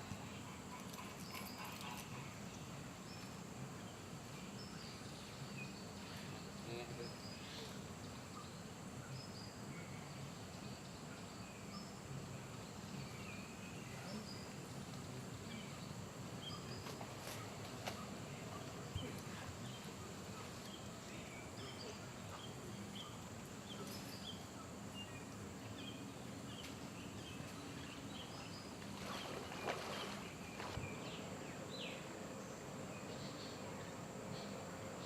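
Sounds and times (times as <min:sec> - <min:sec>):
outdoor background noise: 0:00.0 - 0:35.0
small birds chirping: 0:00.0 - 0:35.0.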